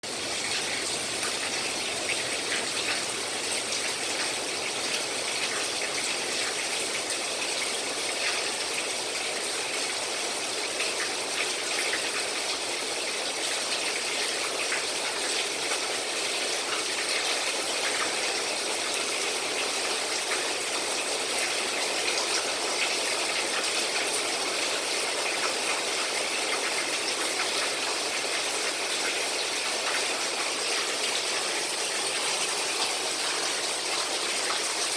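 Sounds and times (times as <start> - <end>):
rainwater dripping off eaves: 0.0 - 34.9
rushing water wash: 0.0 - 34.9.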